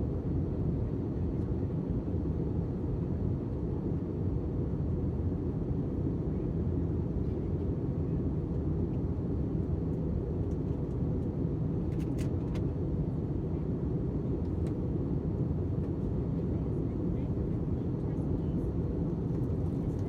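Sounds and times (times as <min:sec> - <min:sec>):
jet airliner rumble: 0:00.0 - 0:20.0.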